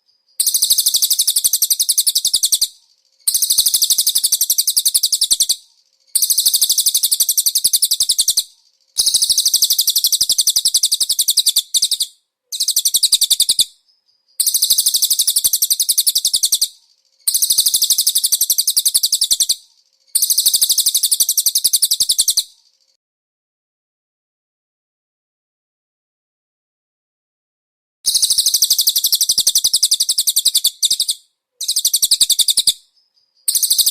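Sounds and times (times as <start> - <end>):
bird singing high rapid trill: 0.0 - 22.5, 28.1 - 33.9.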